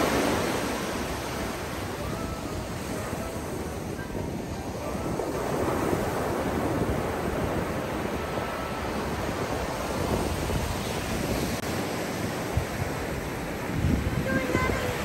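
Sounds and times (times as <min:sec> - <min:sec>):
small waves breaking on beach: 0:00.0 - 0:15.0
wind rumbling on microphone: 0:00.0 - 0:15.0.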